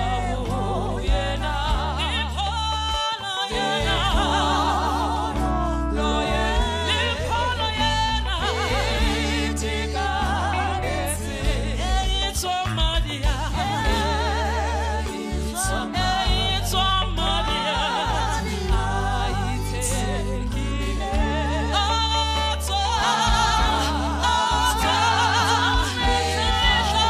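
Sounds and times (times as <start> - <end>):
gospel voices singing: 0.0 - 27.0
low musical accompaniment: 0.0 - 27.0.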